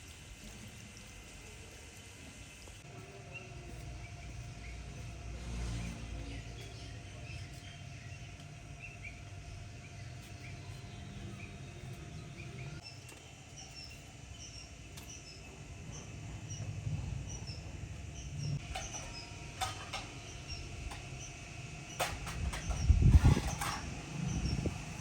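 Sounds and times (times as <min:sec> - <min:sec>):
small birds chirping: 0:00.1 - 0:25.0.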